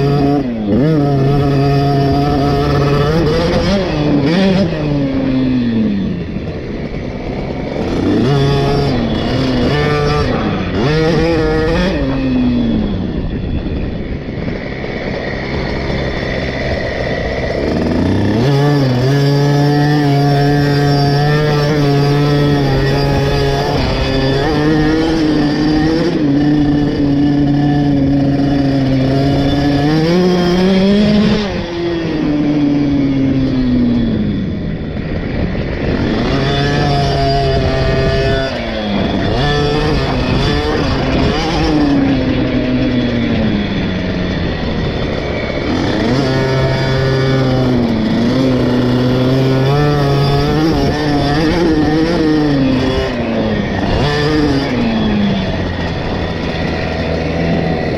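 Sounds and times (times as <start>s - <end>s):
two-stroke motorcycle engine revving: 0.0s - 57.9s.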